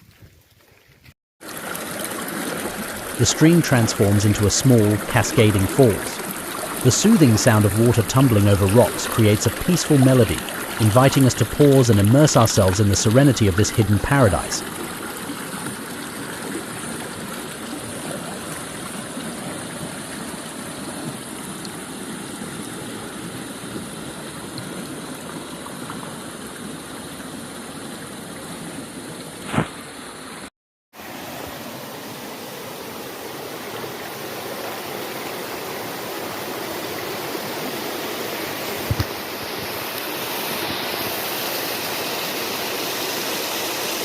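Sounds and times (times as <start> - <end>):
stream water over rocks: 1.4 - 44.0.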